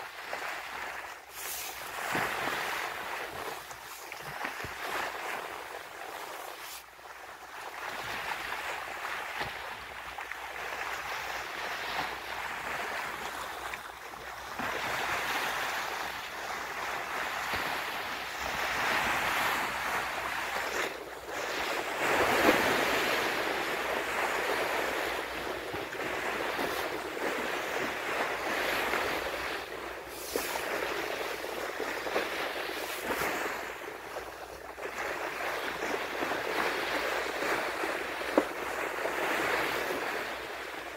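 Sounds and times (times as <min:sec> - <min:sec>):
sea water rushing and splashing: 0:00.0 - 0:40.9.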